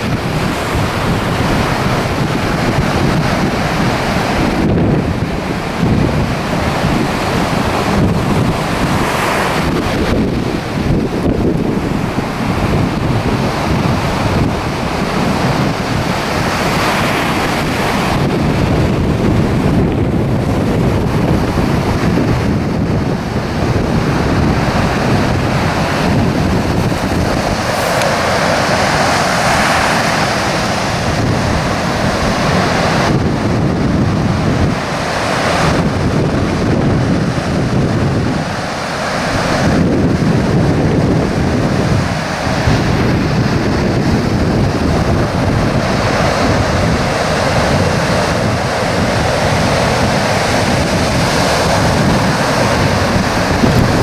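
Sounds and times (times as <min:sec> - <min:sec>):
surf washing onto beach: 0:00.0 - 0:54.0
wind buffeting microphone: 0:00.0 - 0:54.0.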